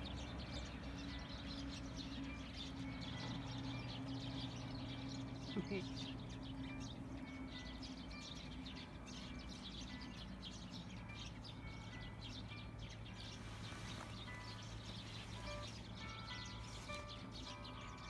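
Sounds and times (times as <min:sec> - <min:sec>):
faint music of held notes: 0:00.0 - 0:18.0
small birds chirping: 0:00.0 - 0:18.0.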